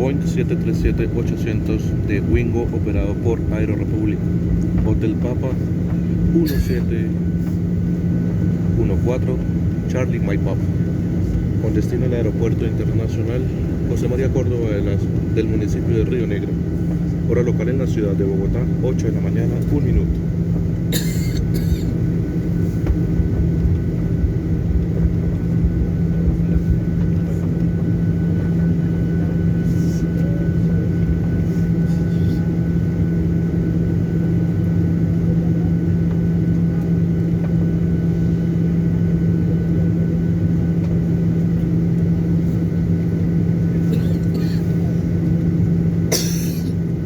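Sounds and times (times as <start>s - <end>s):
airliner cabin rumble: 0.0s - 47.0s.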